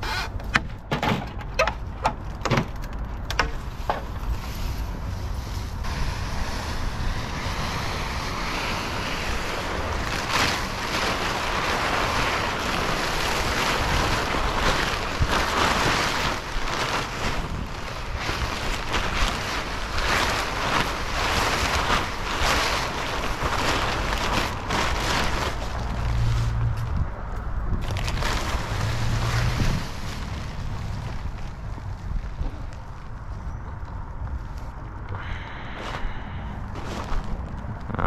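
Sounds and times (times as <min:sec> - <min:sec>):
plastic tarp rustling and crackling: 0:00.0 - 0:38.0
wind noise on microphone: 0:00.0 - 0:38.0.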